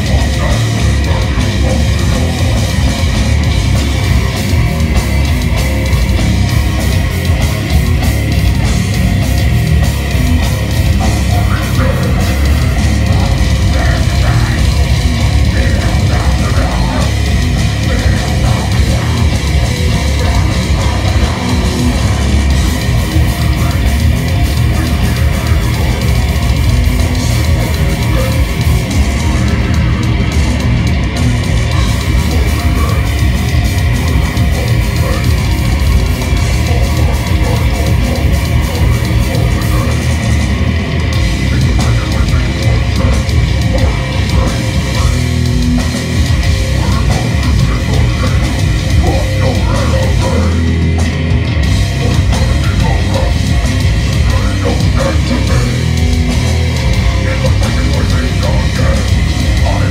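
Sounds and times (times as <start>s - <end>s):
death metal band playing: 0.0s - 59.9s.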